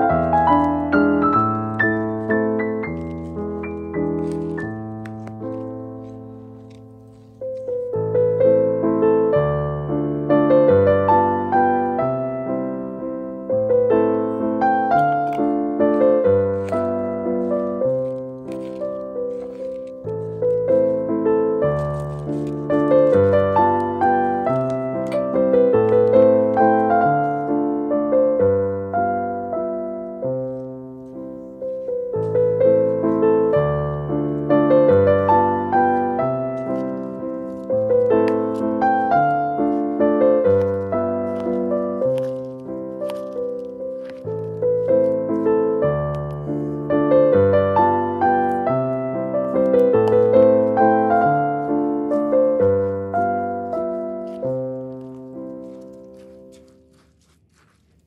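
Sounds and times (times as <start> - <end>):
slow piano music: 0.0 - 57.2.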